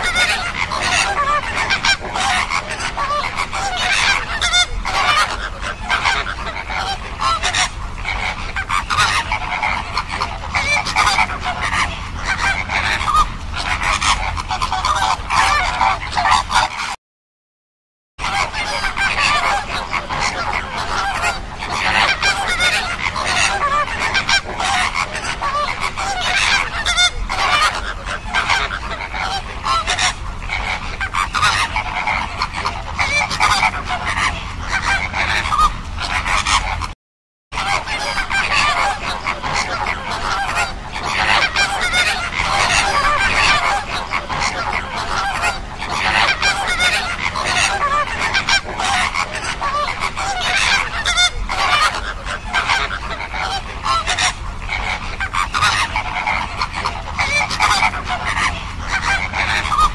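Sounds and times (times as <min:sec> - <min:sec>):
flamingos honking: 0:00.0 - 0:17.0, 0:18.2 - 0:37.0, 0:37.6 - 0:59.9.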